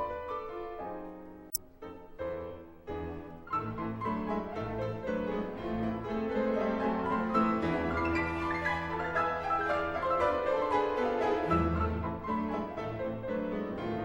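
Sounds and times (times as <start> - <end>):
classical piano music: 0.0 - 14.0.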